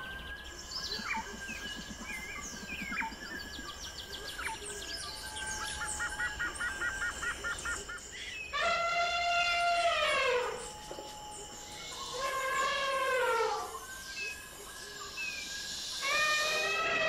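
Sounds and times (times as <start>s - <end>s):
birds singing and calling: 0.0s - 17.0s.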